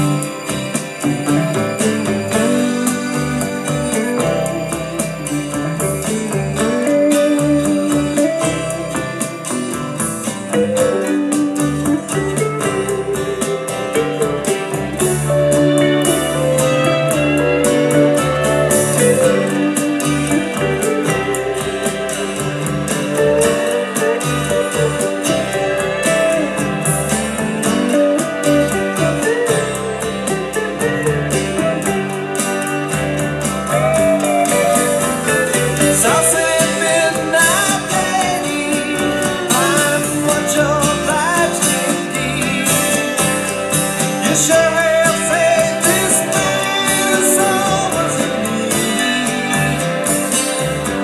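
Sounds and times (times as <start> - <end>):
gliding steel guitar: 0.0 - 51.0
rock guitars: 0.0 - 51.0
steady drum beat: 0.0 - 51.0.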